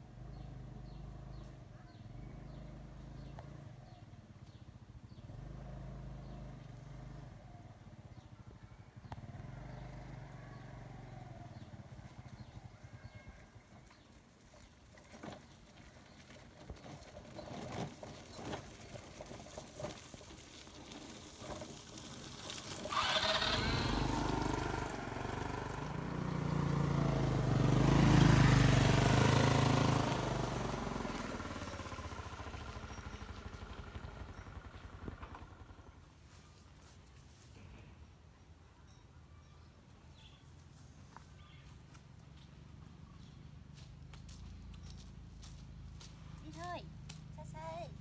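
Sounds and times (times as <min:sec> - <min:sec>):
motor scooter passing by: 0:00.0 - 0:37.9, 0:40.2 - 0:48.0.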